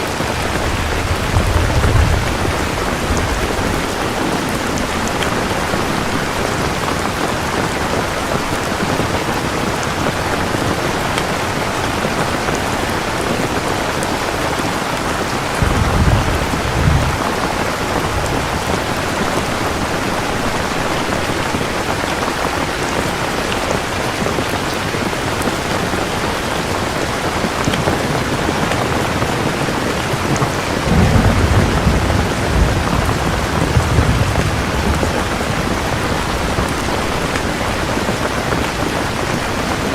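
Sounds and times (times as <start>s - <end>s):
heavy rain: 0.0s - 39.9s
thunder rumbling: 0.1s - 39.9s.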